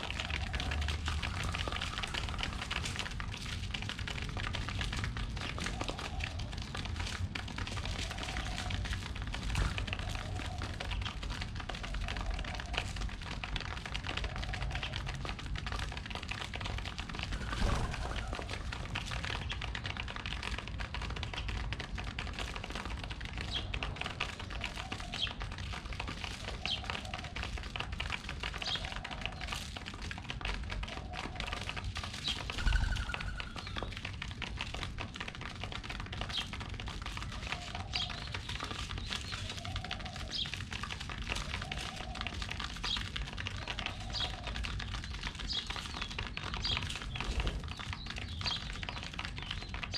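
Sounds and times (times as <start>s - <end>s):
pigeons pecking seed: 0.0s - 49.9s.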